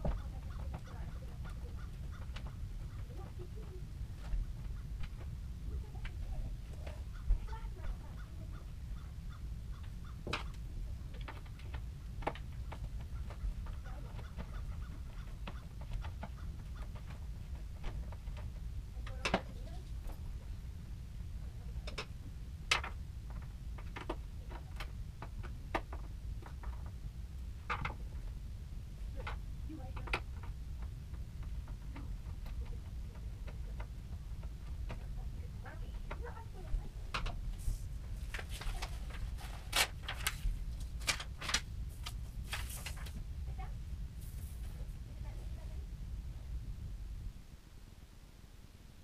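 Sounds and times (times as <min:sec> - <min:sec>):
steady low hum: 0:00.0 - 0:49.0
steady low rumble: 0:00.0 - 0:49.0.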